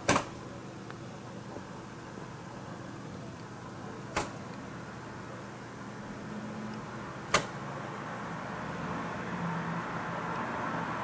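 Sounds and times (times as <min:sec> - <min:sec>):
distant road traffic hum: 0:00.0 - 0:11.0.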